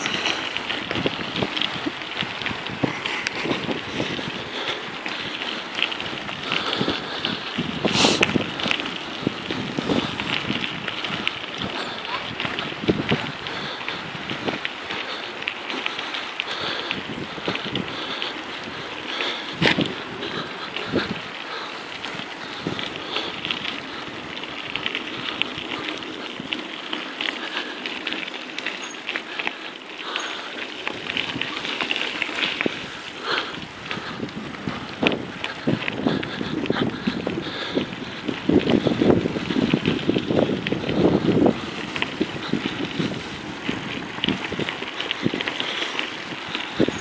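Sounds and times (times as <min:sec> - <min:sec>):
wind on microphone: 0:00.0 - 0:15.0, 0:16.7 - 0:26.7, 0:30.8 - 0:47.0
bicycle tyres on gravel: 0:00.0 - 0:47.0.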